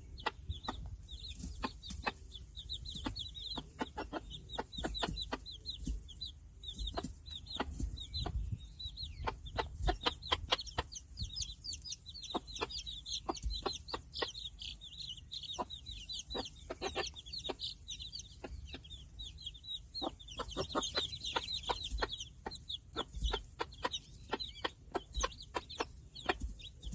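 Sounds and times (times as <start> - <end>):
chicks peeping: 0.0 - 26.9
chicks pecking taps: 0.1 - 26.9.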